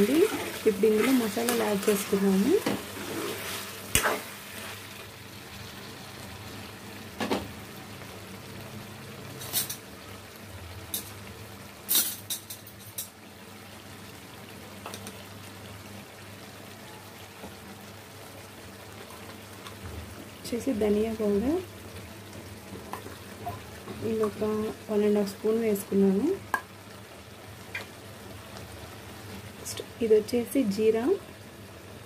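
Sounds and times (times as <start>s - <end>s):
curry frying and bubbling: 0.0s - 32.0s.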